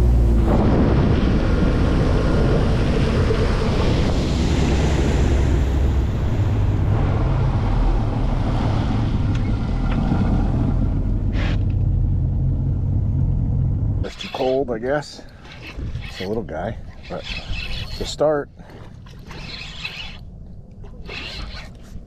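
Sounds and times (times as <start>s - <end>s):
water rushing past hull: 0.0s - 11.3s, 14.1s - 22.0s
wind buffeting microphone: 0.0s - 11.3s, 14.8s - 22.0s.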